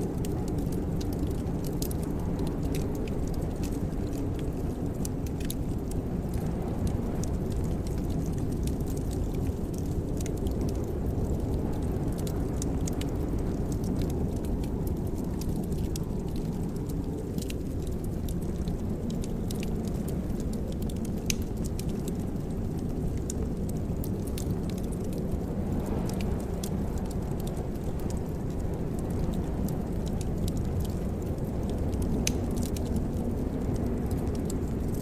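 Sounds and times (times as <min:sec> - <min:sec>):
fire crackling and popping: 0:00.0 - 0:35.0
flames rumbling: 0:00.0 - 0:35.0.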